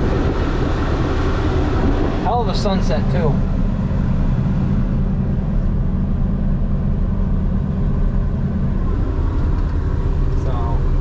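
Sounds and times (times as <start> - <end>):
harvester engine drone: 0.0 - 11.0.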